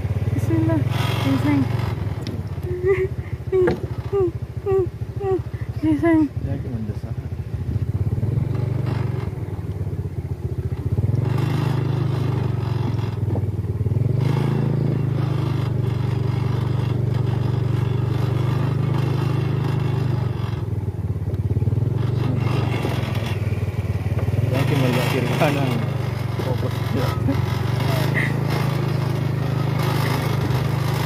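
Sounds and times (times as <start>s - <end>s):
small motorbike engine: 0.0s - 31.0s.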